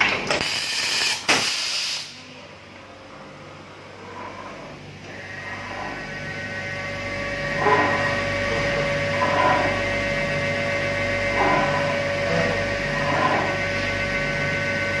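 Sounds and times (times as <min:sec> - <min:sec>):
machine electrical hum and whine: 0:00.0 - 0:15.0.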